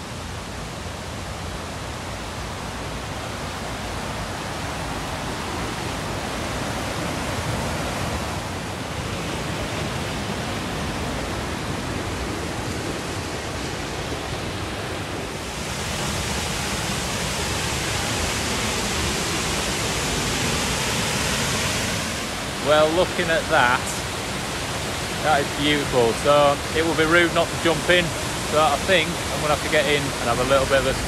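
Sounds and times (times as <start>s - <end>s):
river white water rushing: 0.0s - 31.0s.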